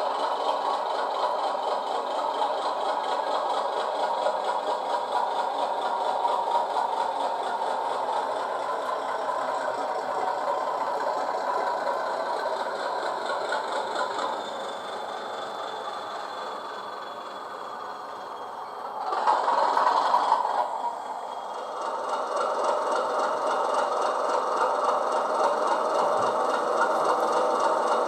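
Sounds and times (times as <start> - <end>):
diesel locomotive engine rattling: 0.0 - 28.0.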